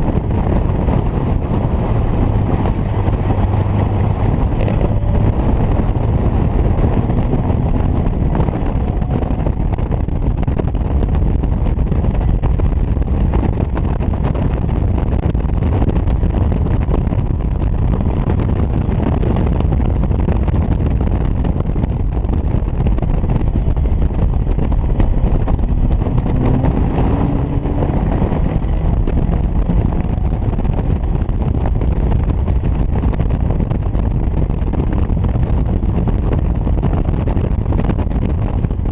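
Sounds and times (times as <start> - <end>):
race car engine at speed: 0.0 - 38.9
wind buffeting microphone: 0.0 - 38.9.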